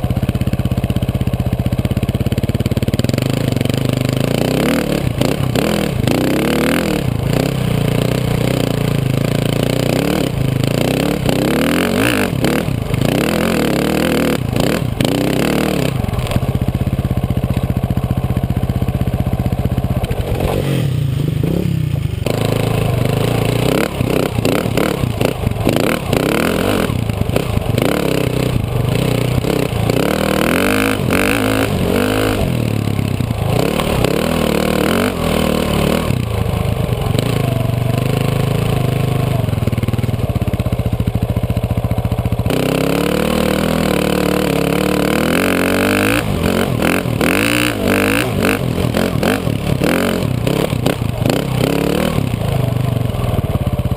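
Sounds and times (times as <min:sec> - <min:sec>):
dirt bike engine revving: 0:02.3 - 0:40.0, 0:42.3 - 0:53.3.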